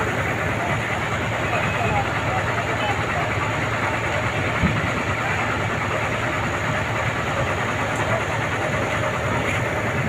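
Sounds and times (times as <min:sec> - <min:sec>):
heavy machinery engines running: 0:00.0 - 0:10.0.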